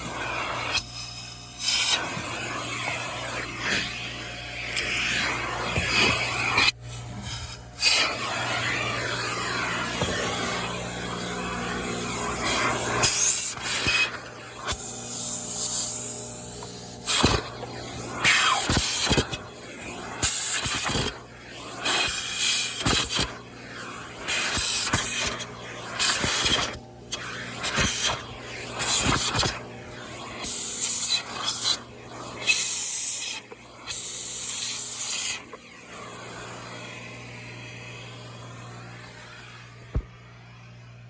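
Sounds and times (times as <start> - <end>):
vacuum motor hum: 0.0 - 41.0
vacuum suction hiss: 0.0 - 41.0.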